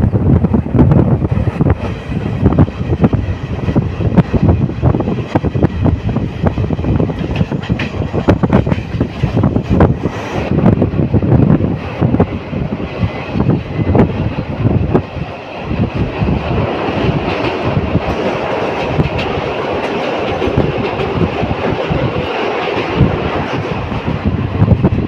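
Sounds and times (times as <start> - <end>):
train wheels clattering: 1.2 - 10.5, 12.9 - 24.3.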